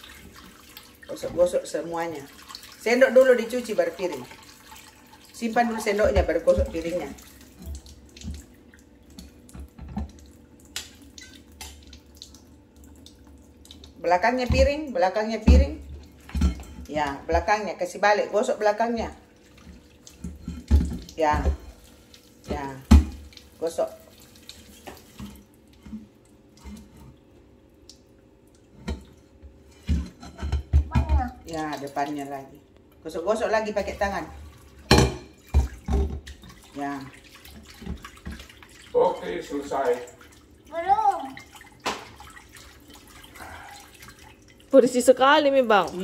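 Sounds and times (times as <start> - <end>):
tap water trickling into sink: 0.0 - 17.6, 19.3 - 33.0, 33.6 - 45.0.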